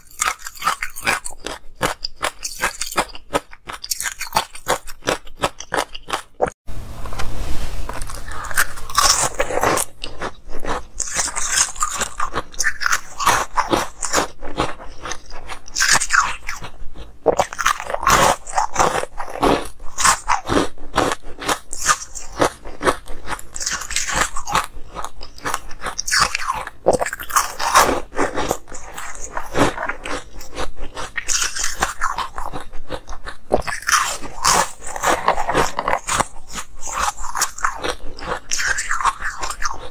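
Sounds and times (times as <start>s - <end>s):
ice cubes crunching: 0.0s - 6.6s, 7.9s - 39.9s.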